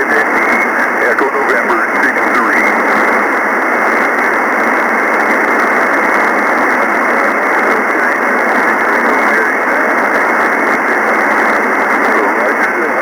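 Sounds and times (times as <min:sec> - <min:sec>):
radio receiver hiss: 0:00.0 - 0:13.0.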